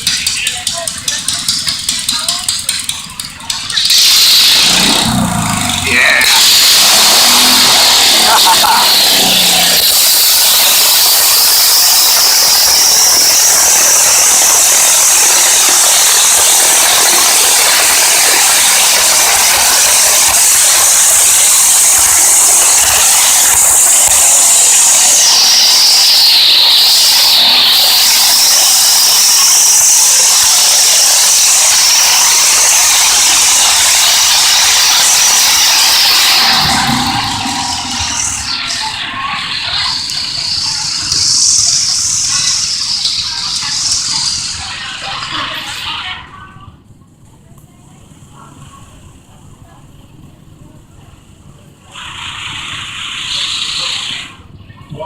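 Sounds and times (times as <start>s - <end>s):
garden tractor high-pitched whine: 0.0s - 45.7s.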